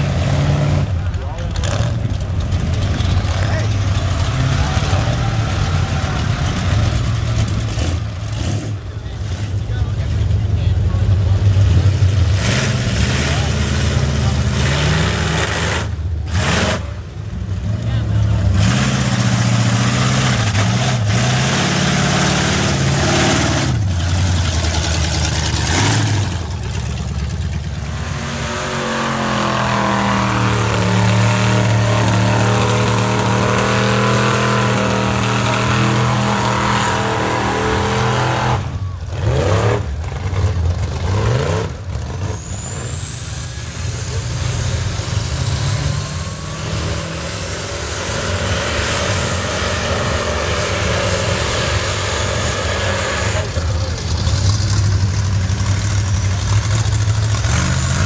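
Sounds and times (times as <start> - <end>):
truck engines revving high: 0.0 - 58.0.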